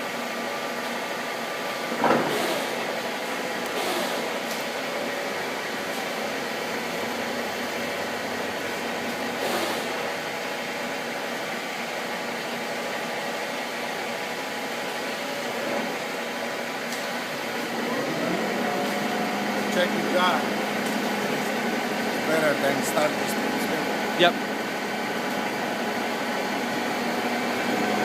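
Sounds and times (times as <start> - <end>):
lathe motor humming: 2.6 - 11.9, 14.0 - 28.0.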